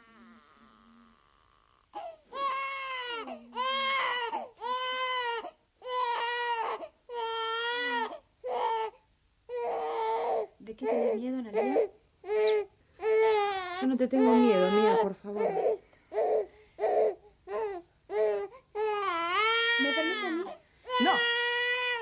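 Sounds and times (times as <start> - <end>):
baby crying: 0.0 - 22.0.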